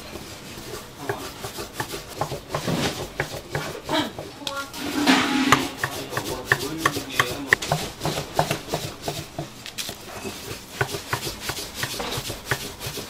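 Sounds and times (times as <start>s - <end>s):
rolling pin on wooden board: 0.0s - 13.0s.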